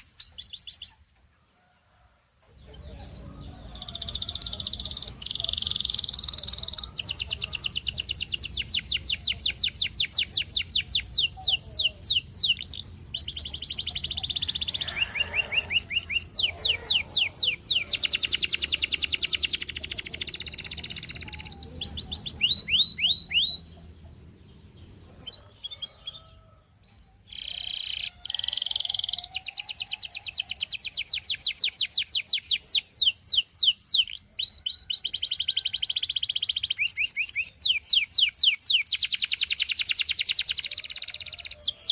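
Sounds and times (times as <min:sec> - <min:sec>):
canary singing trills: 0:00.0 - 0:01.1, 0:02.6 - 0:41.9.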